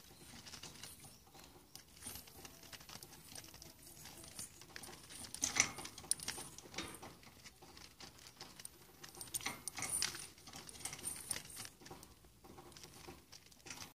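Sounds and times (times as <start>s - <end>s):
seed rattling: 0.0s - 11.9s.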